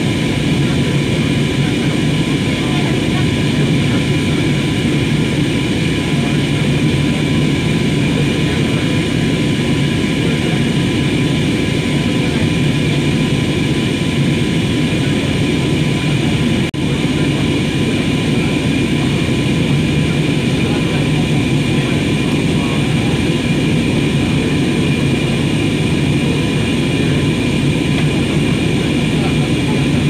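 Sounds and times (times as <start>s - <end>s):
jet engine cabin roar: 0.0s - 30.0s.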